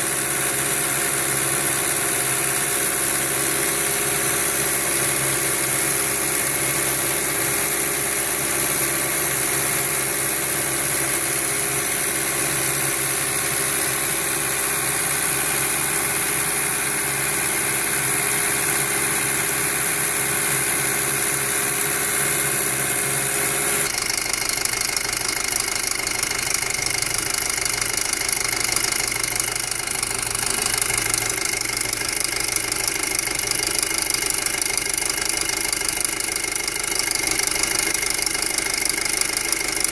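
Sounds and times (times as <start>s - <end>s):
car engine with abnormal noise: 0.0s - 39.9s.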